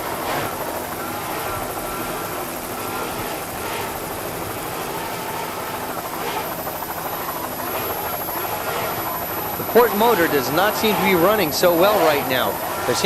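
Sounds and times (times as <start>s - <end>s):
aircraft engines rushing: 0.0s - 13.0s
powerboat motor drone: 0.0s - 13.0s.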